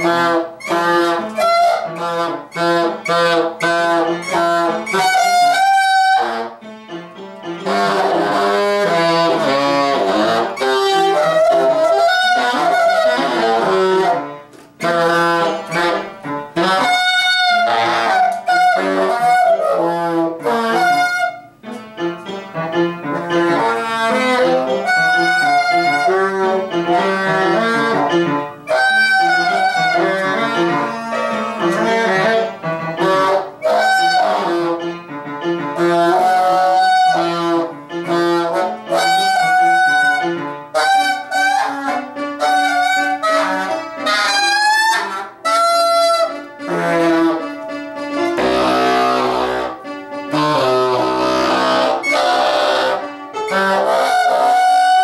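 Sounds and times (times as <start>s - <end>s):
saxophone playing: 0.0s - 55.0s.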